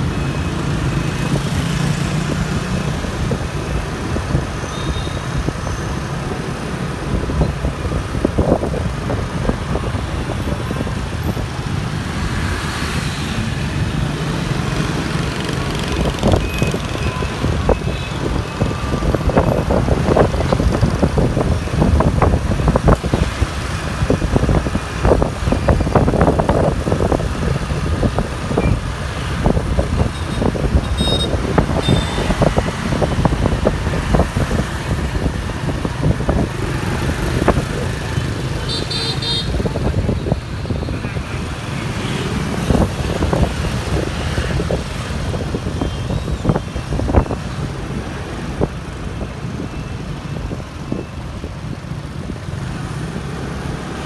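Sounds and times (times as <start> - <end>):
motorbike engines: 0.0 - 54.0
road noise: 0.0 - 54.0
wind rumble on microphone: 6.2 - 12.6, 14.8 - 38.6, 39.5 - 54.0.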